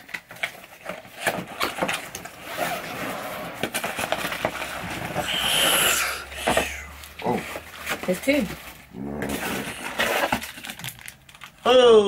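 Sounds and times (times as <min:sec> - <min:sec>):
cardboard flaps rustling and scraping: 0:00.0 - 0:05.3, 0:06.4 - 0:11.0.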